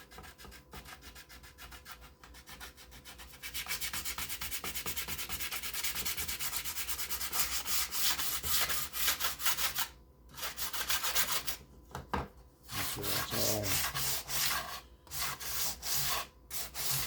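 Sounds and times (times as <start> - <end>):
hand sanding plastic: 0.0 - 11.6, 12.7 - 17.0.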